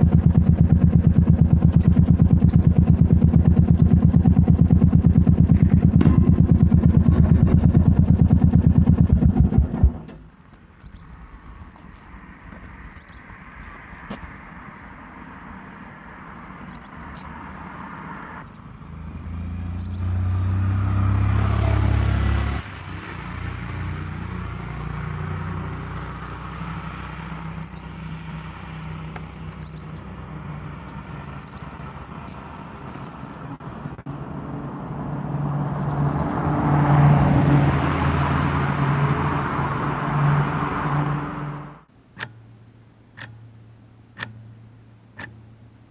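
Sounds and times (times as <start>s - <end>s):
vehicle engines running: 0.0s - 45.9s.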